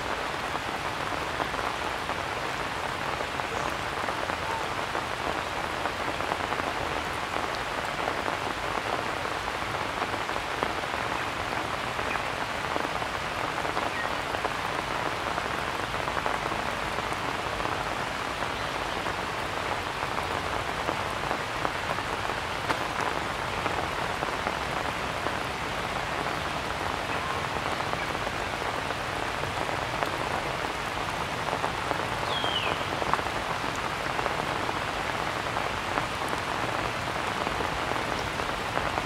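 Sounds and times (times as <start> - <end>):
rain falling on rock and grass: 0.0 - 39.0.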